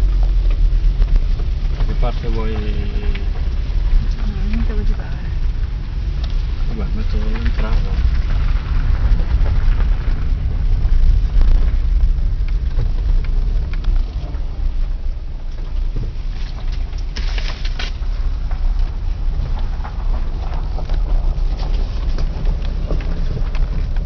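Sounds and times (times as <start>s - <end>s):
car rolling over gravel: 0.0s - 24.0s.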